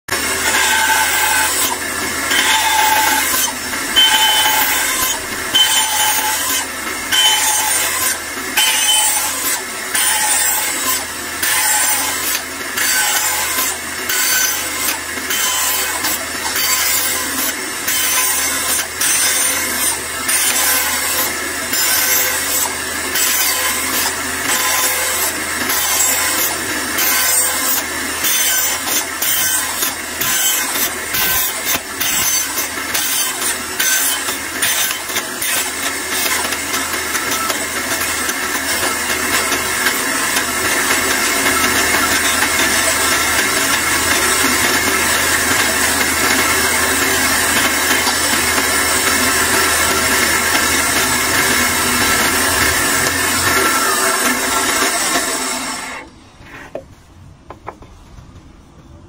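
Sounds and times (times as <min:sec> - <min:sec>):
bandsaw cutting wood: 0:00.1 - 0:56.7.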